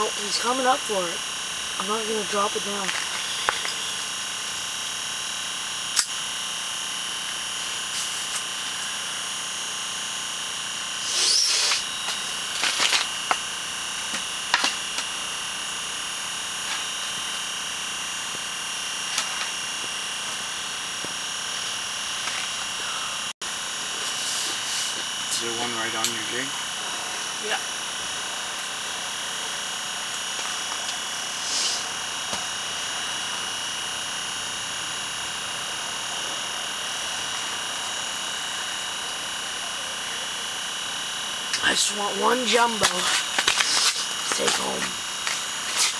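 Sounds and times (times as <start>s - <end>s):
high-pitched multi-tone whine: 0.0s - 45.9s.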